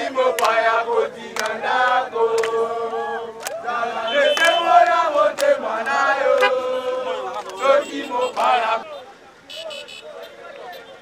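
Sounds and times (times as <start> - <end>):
crowd singing and chanting: 0.0 - 11.0.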